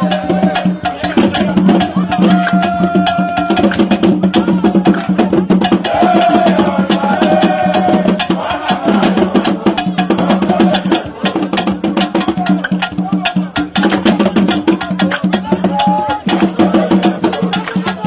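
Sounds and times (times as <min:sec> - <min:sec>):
wood-block percussion clicks: 0:00.0 - 0:18.0.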